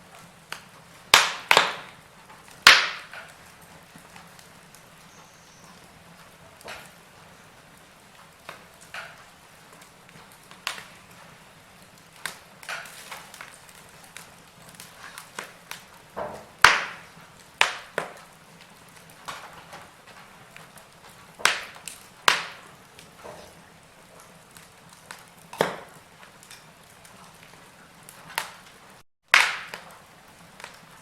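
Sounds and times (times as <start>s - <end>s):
faint steady hiss: 0.0s - 31.0s
wood fire crackling and popping: 0.0s - 31.0s.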